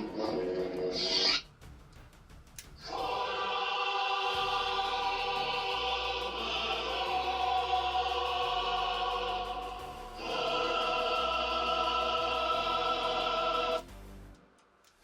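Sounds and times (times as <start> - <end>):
choir holding sustained chords: 0.0 - 1.0, 2.8 - 14.6.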